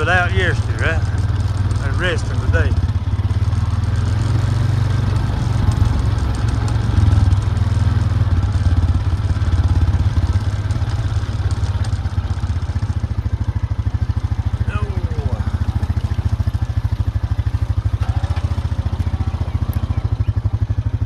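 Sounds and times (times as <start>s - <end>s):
vehicle engine pulsing drone: 0.0s - 21.0s.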